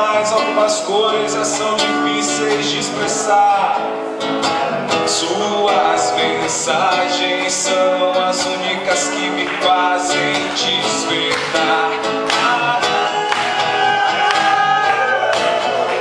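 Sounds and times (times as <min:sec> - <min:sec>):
acoustic guitar strummed: 0:00.0 - 0:16.0
person singing: 0:00.0 - 0:16.0.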